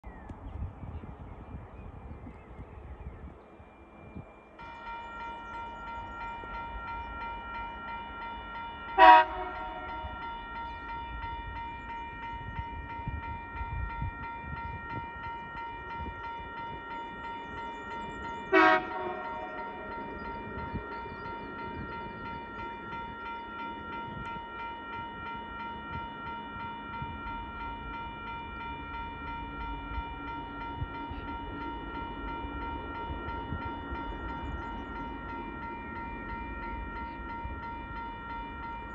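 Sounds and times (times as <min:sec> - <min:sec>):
level crossing warning bell: 0:03.5 - 0:38.9
diesel locomotive horn blasts: 0:04.6 - 0:38.9.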